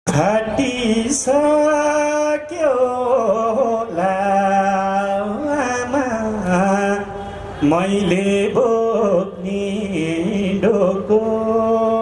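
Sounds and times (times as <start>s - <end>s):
man singing into a microphone: 0.1s - 12.0s.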